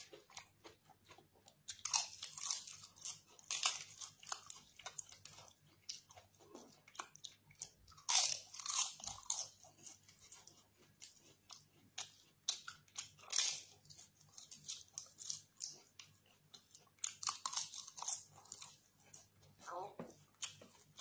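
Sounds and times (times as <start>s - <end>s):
crunching crisp food: 0.0s - 19.4s
soft chewing: 0.0s - 21.0s.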